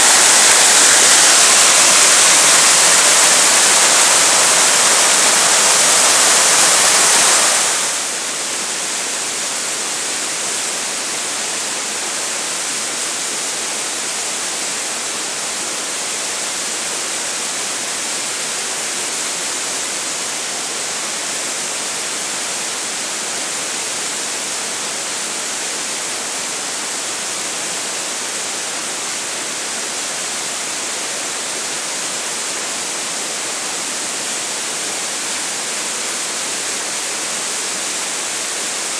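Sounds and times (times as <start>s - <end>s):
water rushing over rock ledge: 0.0s - 38.9s.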